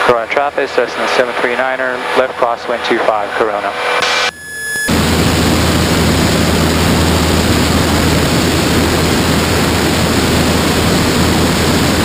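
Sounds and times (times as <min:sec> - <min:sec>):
small plane engine and propeller: 0:00.0 - 0:12.0.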